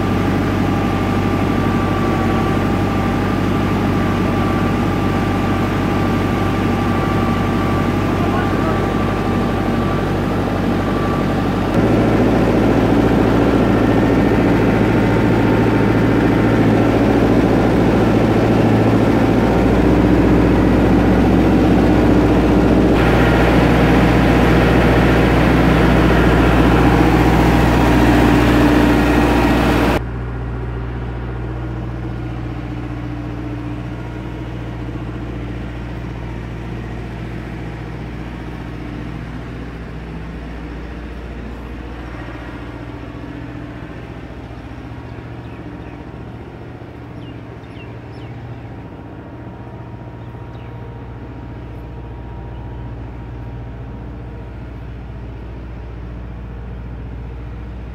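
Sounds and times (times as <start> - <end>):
farm machinery engines running: 0.0 - 57.9.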